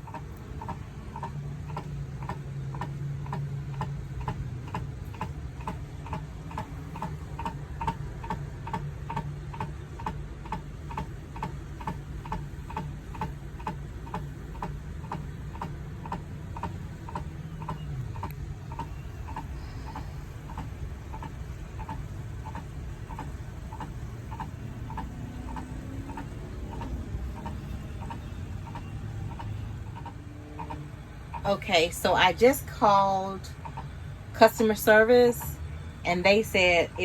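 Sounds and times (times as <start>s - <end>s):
air conditioner fan ticking: 0.0s - 37.0s.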